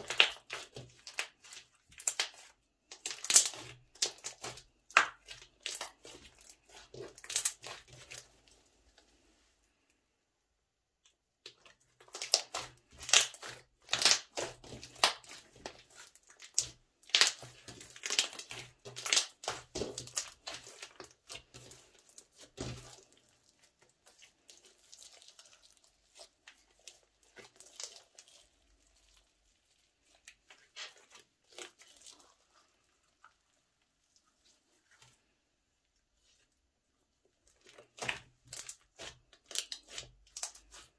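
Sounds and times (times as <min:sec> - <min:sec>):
slime squelching and popping: 0:00.0 - 0:08.6, 0:11.3 - 0:35.1, 0:37.3 - 0:40.9.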